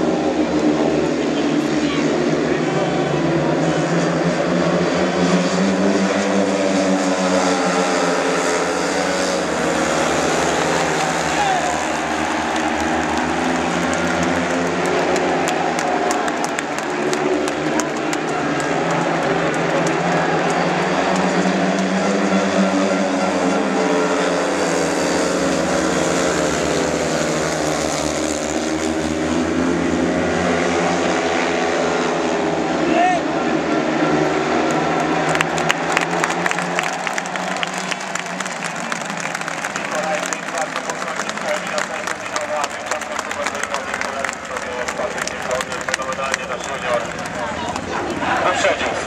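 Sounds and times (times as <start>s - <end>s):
motorcycle engines racing: 0.0s - 49.0s.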